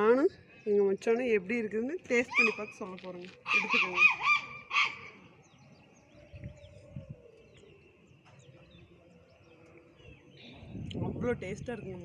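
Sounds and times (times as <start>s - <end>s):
faint birds chirping: 0.0s - 12.0s
rural background noise: 0.0s - 12.0s.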